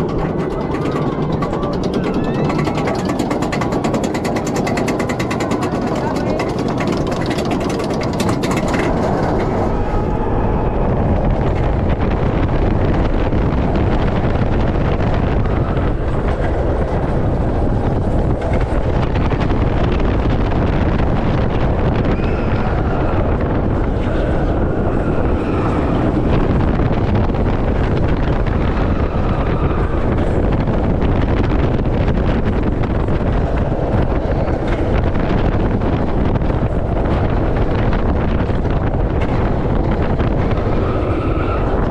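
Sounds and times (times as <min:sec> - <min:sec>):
roller coaster running on track: 0:00.0 - 0:41.9
wind buffeting microphone: 0:00.0 - 0:41.9.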